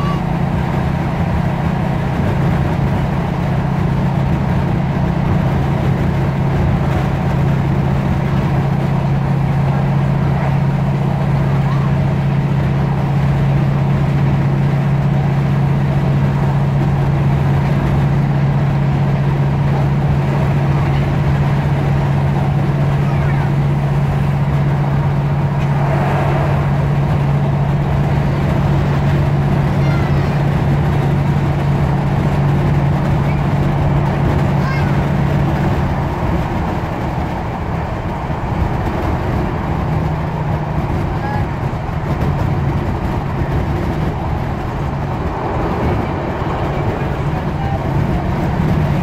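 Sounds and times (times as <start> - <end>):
diesel engine drone: 0.0 - 49.0
train wheels rumbling on track: 0.0 - 49.0.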